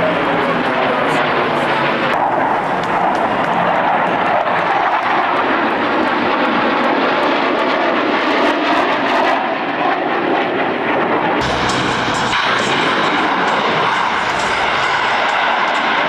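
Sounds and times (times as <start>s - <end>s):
jet engines roaring past: 0.0s - 16.0s.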